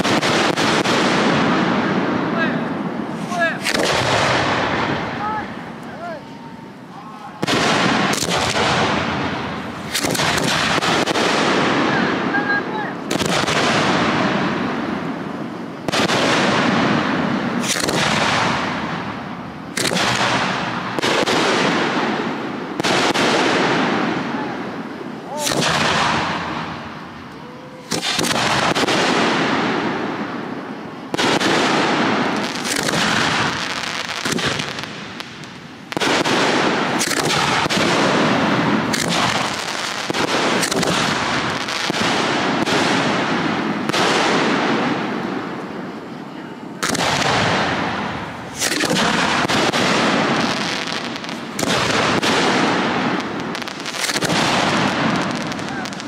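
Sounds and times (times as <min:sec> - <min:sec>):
firework shells bursting: 0:00.0 - 0:12.4, 0:13.0 - 0:45.8, 0:46.8 - 0:56.0.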